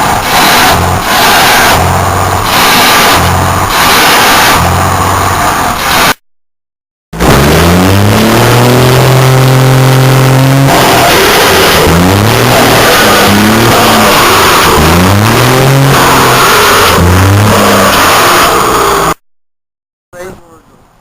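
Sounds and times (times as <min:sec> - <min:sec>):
car engine revving hard: 0:00.0 - 0:06.2, 0:07.2 - 0:19.2.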